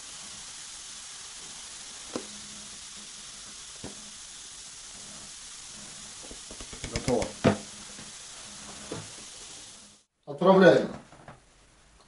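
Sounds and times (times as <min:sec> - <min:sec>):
beer pouring and fizzing: 0:00.0 - 0:10.0.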